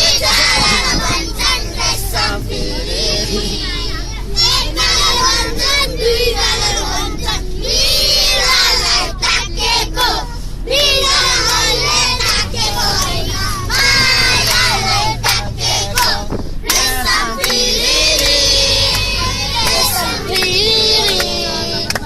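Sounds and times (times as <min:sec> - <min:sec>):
children singing: 0:00.0 - 0:22.0.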